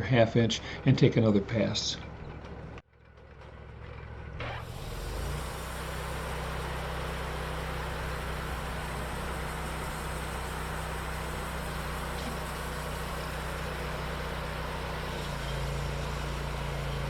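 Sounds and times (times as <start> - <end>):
bandsaw mill running: 3.0 - 17.0.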